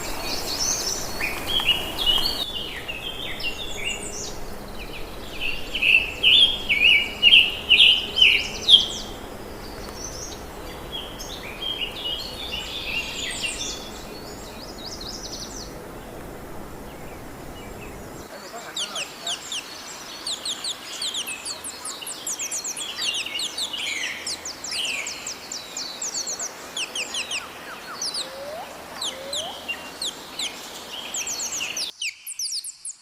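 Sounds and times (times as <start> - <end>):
steady background hiss: 0.0 - 31.9
wild birds singing and chirping: 0.0 - 33.0.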